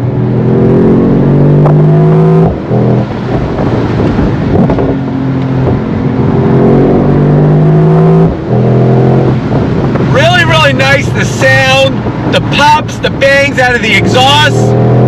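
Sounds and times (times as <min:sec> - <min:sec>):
car engine revving with gear shifts: 0:00.0 - 0:15.0.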